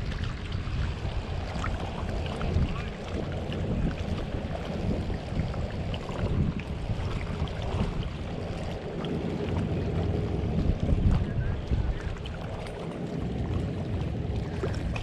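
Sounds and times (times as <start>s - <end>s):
water sounds: 0.0s - 15.0s
wind buffeting microphone: 0.0s - 15.0s.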